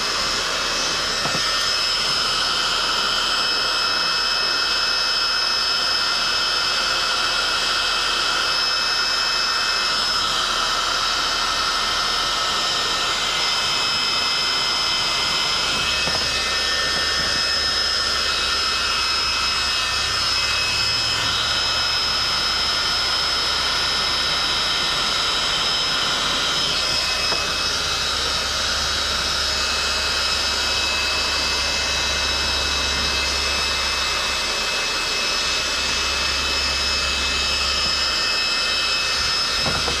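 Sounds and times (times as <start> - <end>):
heat gun blowing with whine: 0.0 - 40.0.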